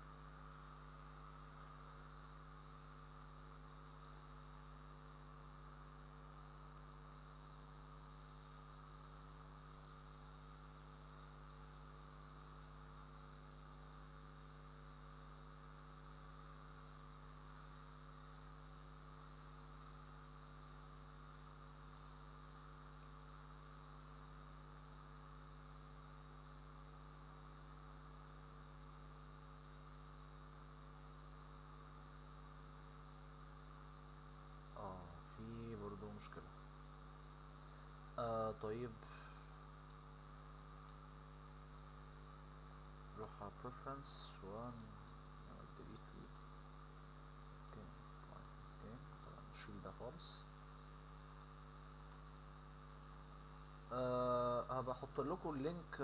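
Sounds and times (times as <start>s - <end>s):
faint electrical mains hum: 0.0s - 56.0s.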